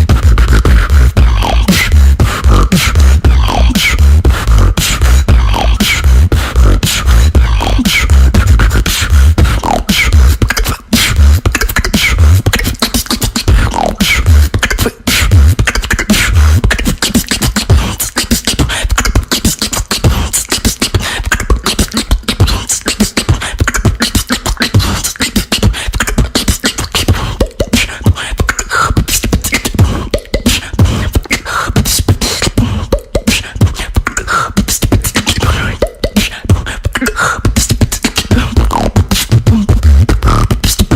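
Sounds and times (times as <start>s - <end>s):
person beatboxing: 0.0s - 40.9s.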